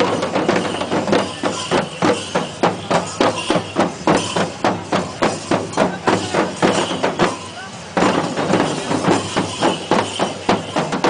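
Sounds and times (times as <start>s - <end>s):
crowd voices: 0.0s - 11.0s
drums beating driving rhythm: 0.0s - 11.0s.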